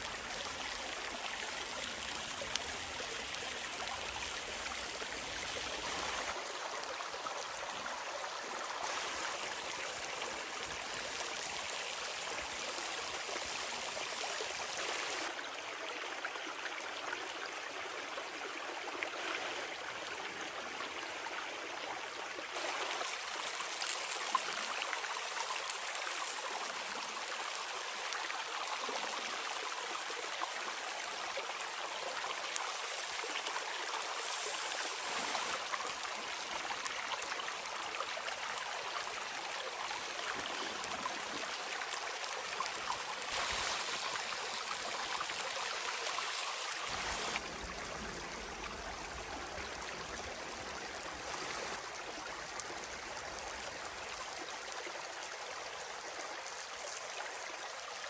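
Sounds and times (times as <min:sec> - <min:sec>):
running water: 0:00.0 - 0:14.1, 0:22.4 - 0:55.2.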